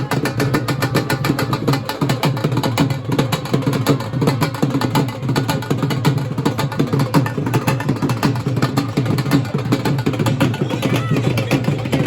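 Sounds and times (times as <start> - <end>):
fast loud drumming: 0.0 - 12.0.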